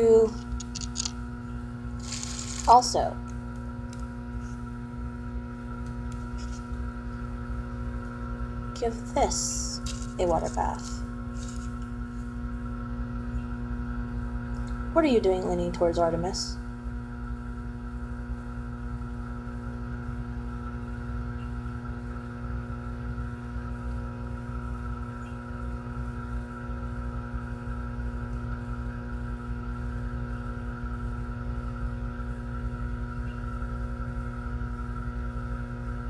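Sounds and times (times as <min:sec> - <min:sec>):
electrical hum: 0:00.0 - 0:36.0.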